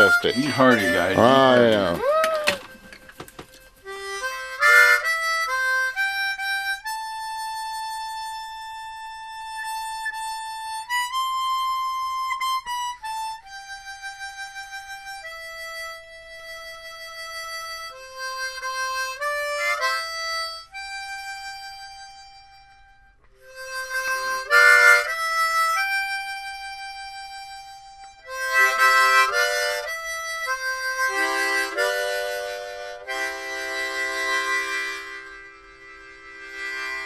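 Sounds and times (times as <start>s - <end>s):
harmonica music: 0.0s - 37.0s.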